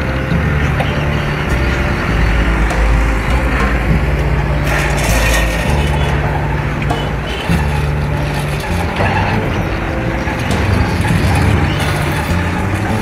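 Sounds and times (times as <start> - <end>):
diesel truck engine at low speed: 0.0 - 13.0.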